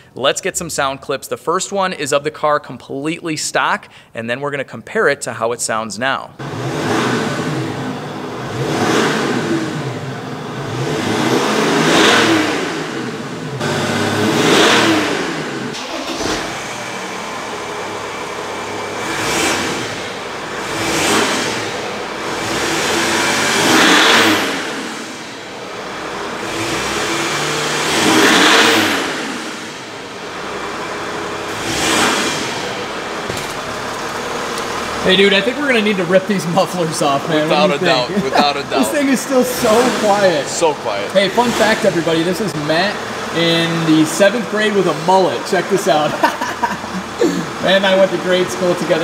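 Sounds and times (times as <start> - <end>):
diesel engine revving: 6.4 - 49.0.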